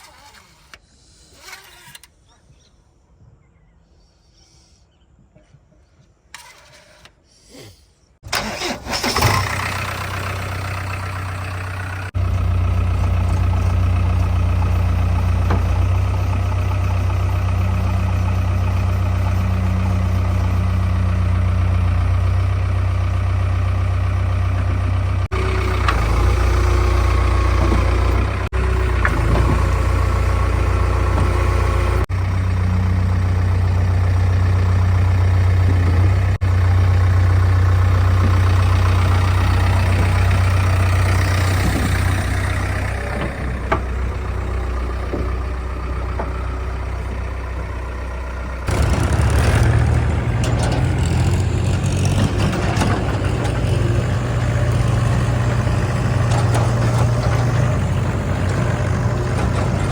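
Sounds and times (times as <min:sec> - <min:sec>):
diesel engines droning: 0:08.2 - 0:59.9.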